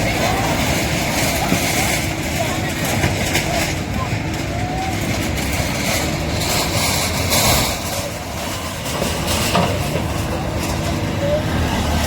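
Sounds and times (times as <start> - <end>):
heavy engine rumbling: 0.0 - 12.0.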